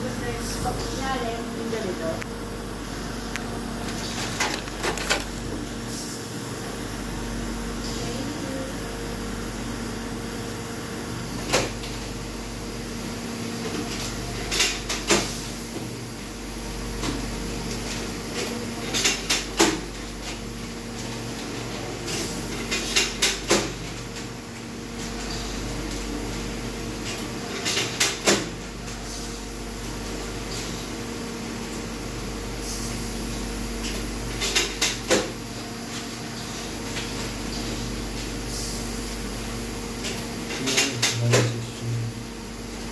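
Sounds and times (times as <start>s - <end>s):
steam sterilizer humming: 0.0s - 42.9s.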